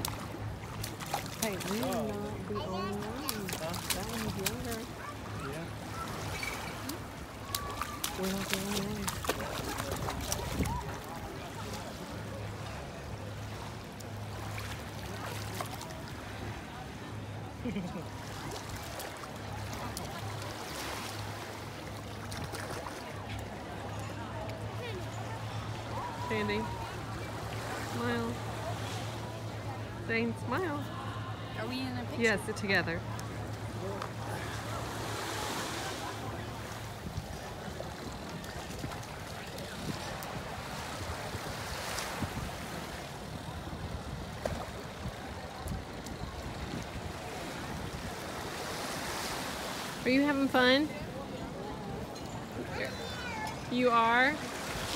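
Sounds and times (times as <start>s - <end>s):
sea waves washing: 0.0s - 54.9s
water rushing: 0.0s - 54.9s.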